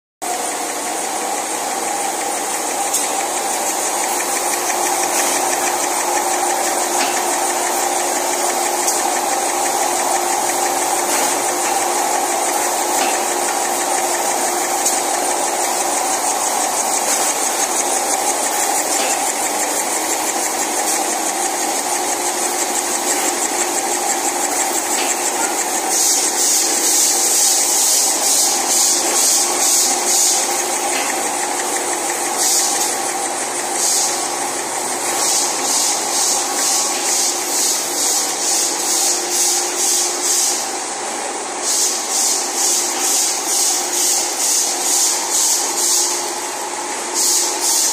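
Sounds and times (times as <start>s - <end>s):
fast even machine clatter: 0.2s - 47.9s
machinery humming: 0.2s - 47.9s.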